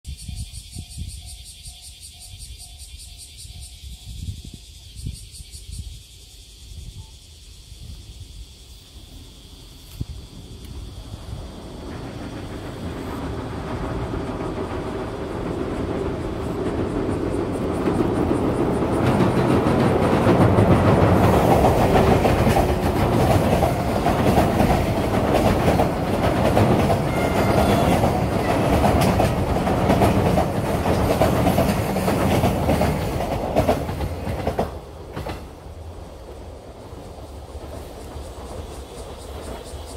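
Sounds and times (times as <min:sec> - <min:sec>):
train wheels on steel bridge: 0:07.7 - 0:39.9.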